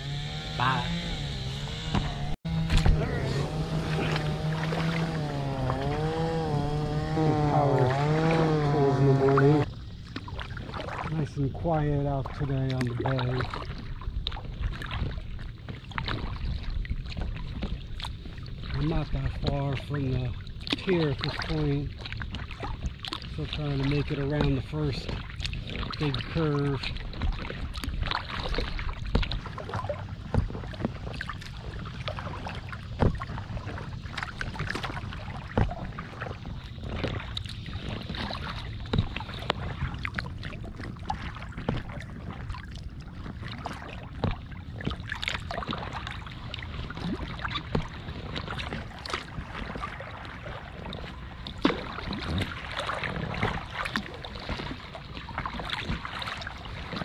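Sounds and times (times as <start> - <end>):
paddle splashes and knocks: 0.0 - 57.0
water swishing along a hull: 0.0 - 57.0.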